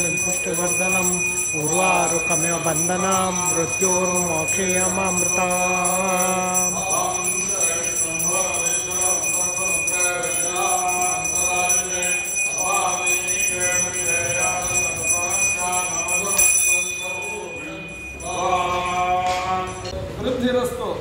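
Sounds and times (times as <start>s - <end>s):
hand bell ringing: 0.0s - 20.0s
voices chanting: 0.0s - 20.0s.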